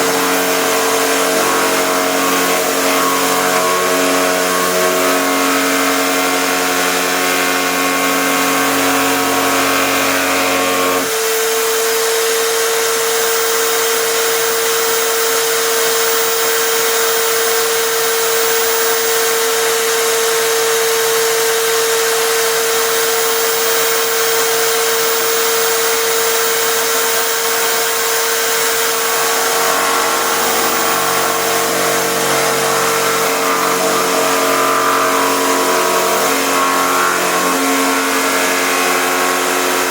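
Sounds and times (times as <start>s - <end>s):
electric drill routing wood: 0.0s - 39.9s.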